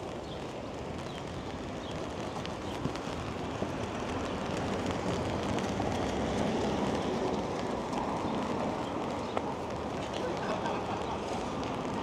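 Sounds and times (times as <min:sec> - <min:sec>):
low traffic rumble: 0:00.0 - 0:12.0
steady rain hiss: 0:00.0 - 0:12.0.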